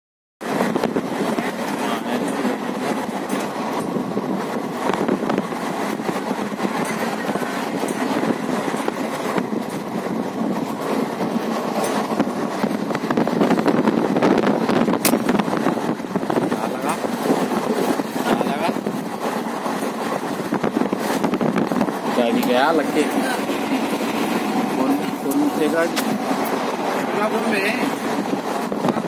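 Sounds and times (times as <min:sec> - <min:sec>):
train wheel and track rumble: 0:00.4 - 0:29.0.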